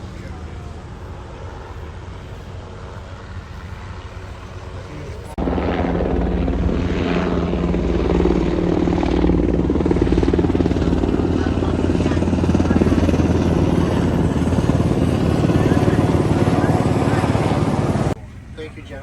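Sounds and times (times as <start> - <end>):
engine low drone: 0.0 - 19.0
helicopter rotor chop: 0.0 - 19.0.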